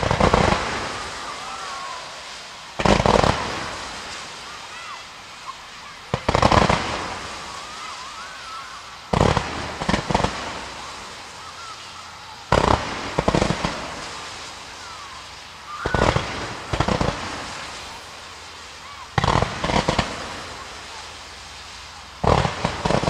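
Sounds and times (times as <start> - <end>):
fireworks bangs: 0.0 - 23.0
fireworks crackling pops: 0.0 - 23.0.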